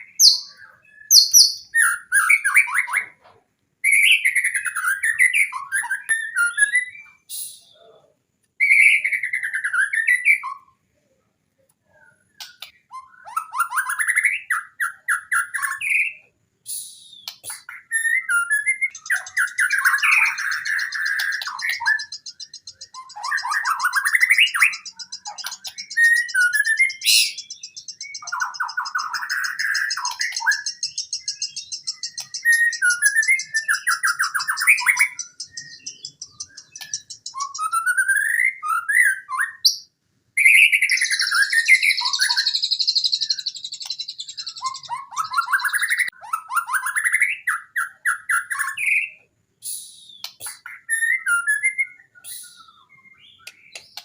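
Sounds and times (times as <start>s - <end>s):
songbird whistling phrases: 0.0s - 3.2s, 3.8s - 10.8s, 11.9s - 54.0s.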